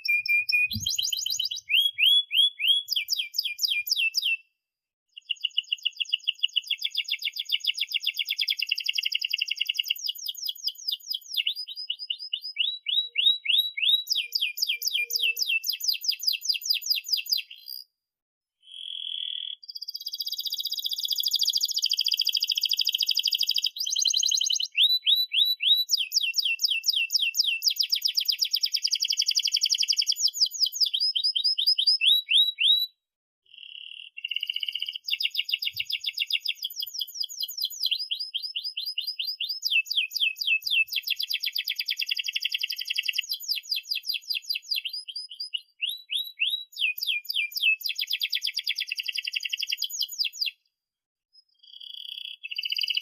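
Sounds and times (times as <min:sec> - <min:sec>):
canary singing trills: 0:00.0 - 0:04.4, 0:05.1 - 0:17.9, 0:18.6 - 0:32.9, 0:33.5 - 0:50.6, 0:51.4 - 0:53.0.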